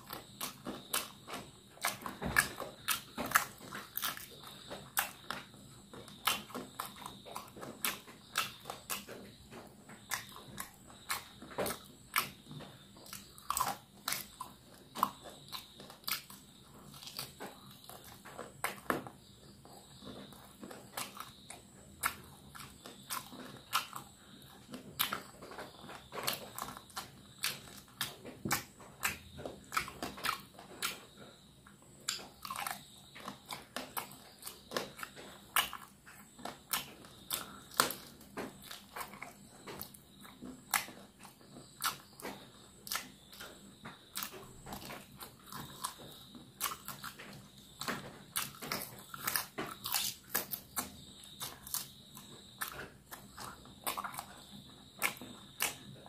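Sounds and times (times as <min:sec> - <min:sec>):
person chewing chicken crunchily: 0:00.0 - 0:56.0.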